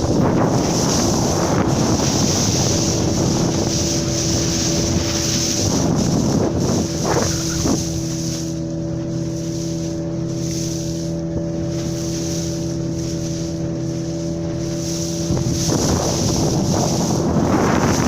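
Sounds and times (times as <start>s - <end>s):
boat engine humming: 0.0s - 18.0s
wind and sea water rushing: 0.0s - 18.0s.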